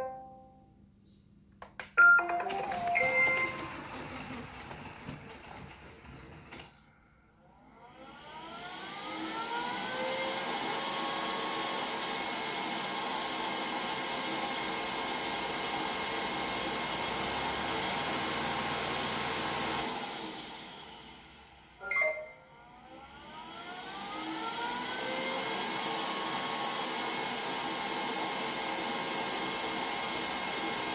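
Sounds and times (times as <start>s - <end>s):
robot vacuum motors whining: 2.5s - 6.7s, 7.7s - 21.4s, 22.7s - 30.9s.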